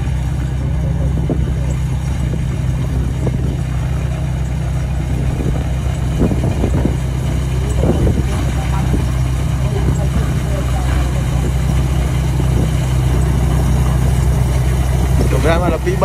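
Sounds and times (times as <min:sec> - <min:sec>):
combine harvester engine humming: 0:00.0 - 0:16.0.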